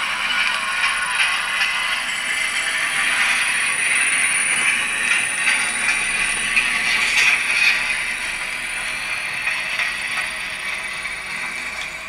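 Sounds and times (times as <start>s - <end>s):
model locomotive running noise: 0.0s - 12.0s
thin high whine: 0.0s - 12.0s.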